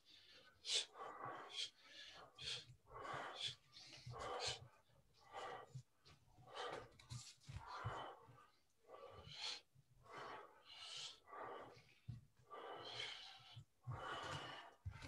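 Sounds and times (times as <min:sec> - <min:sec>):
man breathing: 0:00.0 - 0:07.0, 0:07.6 - 0:15.0.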